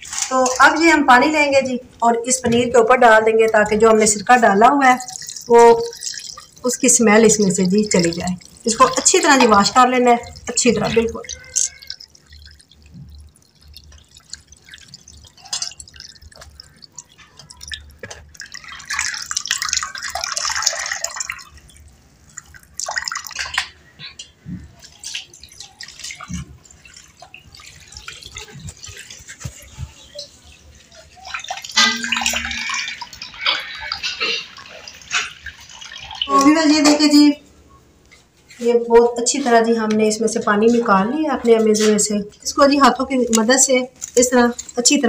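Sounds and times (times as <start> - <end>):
water splashing and dripping: 0.0 - 45.0
water streaming into a strainer: 2.7 - 37.3, 42.0 - 45.0.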